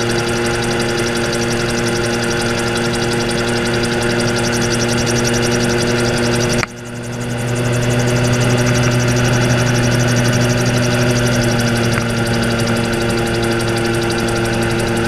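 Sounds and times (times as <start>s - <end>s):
gyrocopter engine and rotor: 0.0s - 15.0s.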